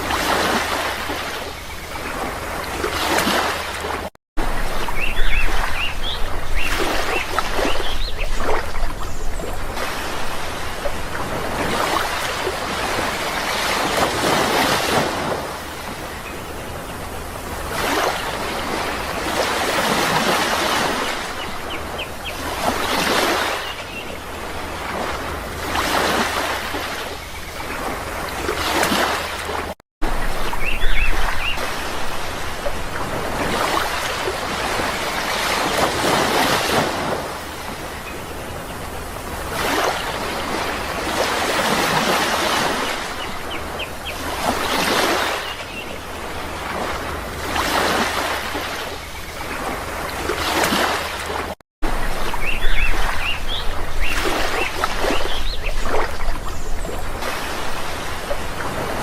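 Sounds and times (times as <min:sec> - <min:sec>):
sea waves washing ashore: 0:00.0 - 0:59.0.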